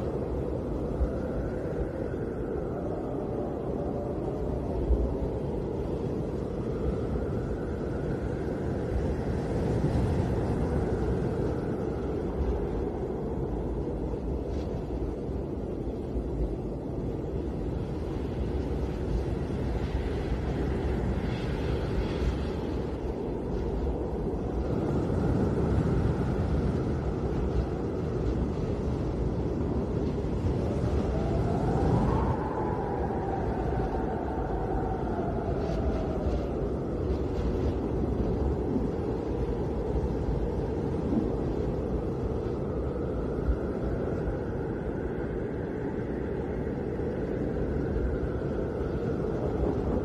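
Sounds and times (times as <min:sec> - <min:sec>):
snowstorm wind rumbling: 0:00.0 - 0:50.0.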